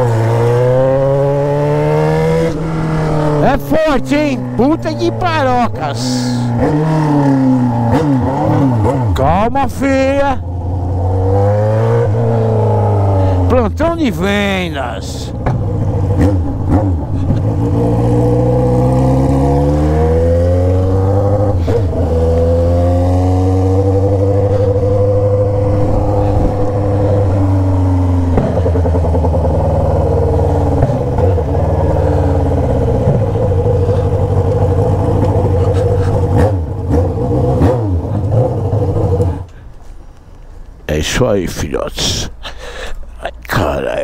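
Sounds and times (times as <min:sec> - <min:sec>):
motorcycle engine revving: 0:00.0 - 0:39.6.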